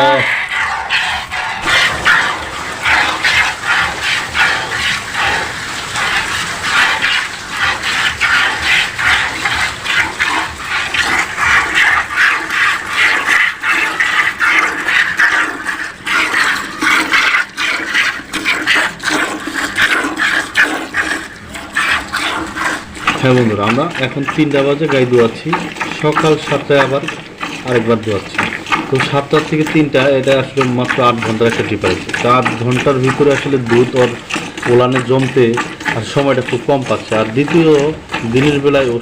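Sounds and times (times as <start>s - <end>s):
milk squirting into a pail: 0.0s - 39.0s.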